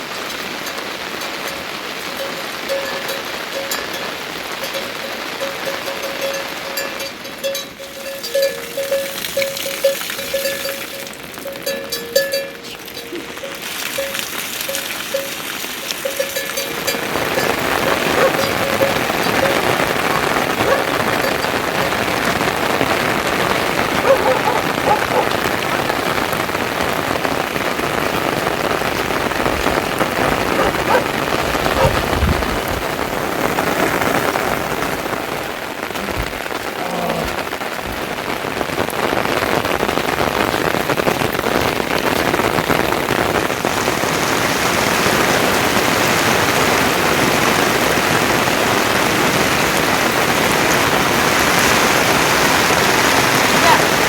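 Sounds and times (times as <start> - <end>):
pattering water: 0.0 - 54.0.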